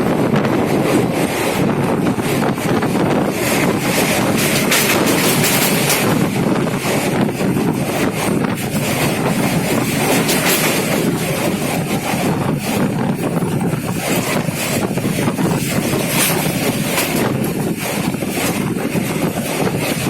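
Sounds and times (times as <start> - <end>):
train rumbling: 0.0 - 20.0
wind buffeting microphone: 0.0 - 20.0.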